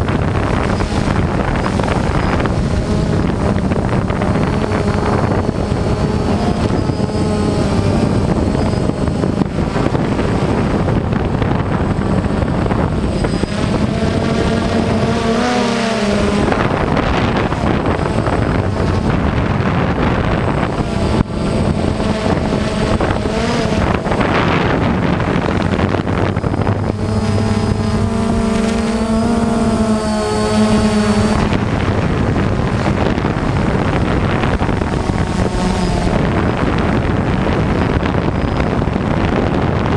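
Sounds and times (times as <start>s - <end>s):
electric motors and propellers buzzing: 0.0s - 39.9s
wind rushing over microphone: 0.0s - 39.9s.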